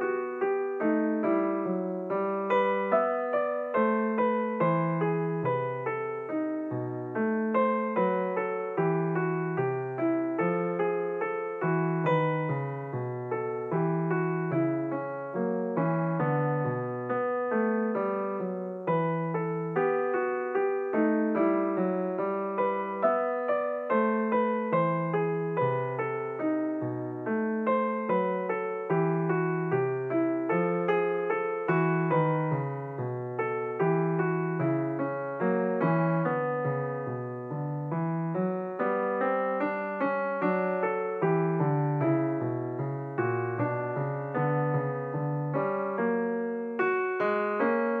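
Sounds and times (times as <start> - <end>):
piano music: 0.0 - 48.0.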